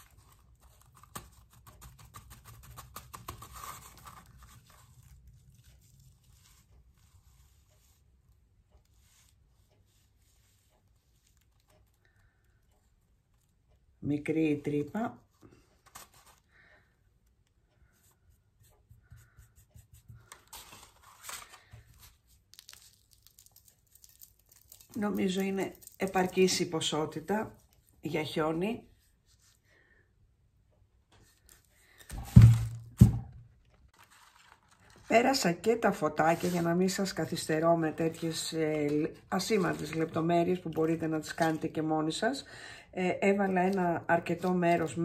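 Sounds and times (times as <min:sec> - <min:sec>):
paper crackling and ticking: 0:00.0 - 0:28.9, 0:33.6 - 0:42.3, 0:43.3 - 0:45.0.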